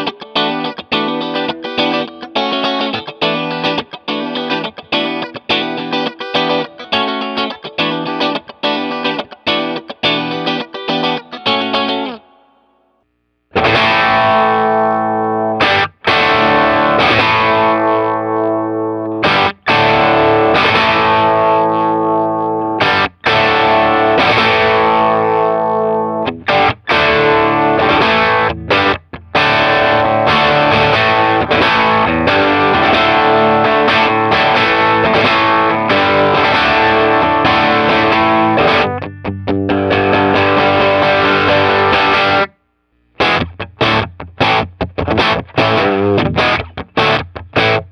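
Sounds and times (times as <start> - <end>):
distorted electric guitar chords: 0.0 - 47.9.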